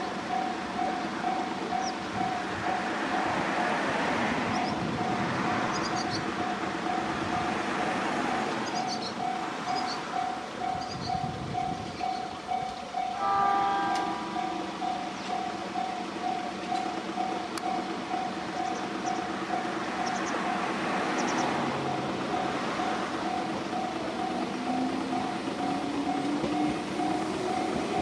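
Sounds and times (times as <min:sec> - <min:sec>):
level crossing warning bell: 0:00.0 - 0:28.0
passing electric train rumble: 0:00.0 - 0:28.0.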